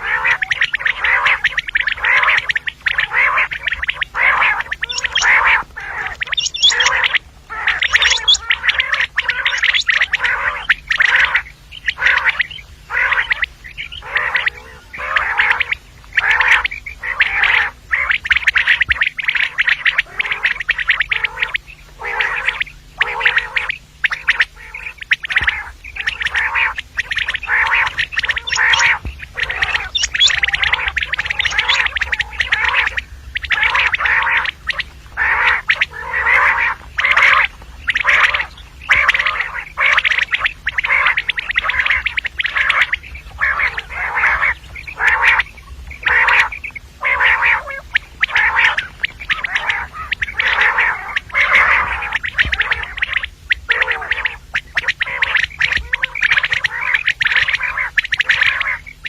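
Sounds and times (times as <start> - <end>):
faint low hum: 0.0 - 59.0
quail calling: 0.0 - 59.0.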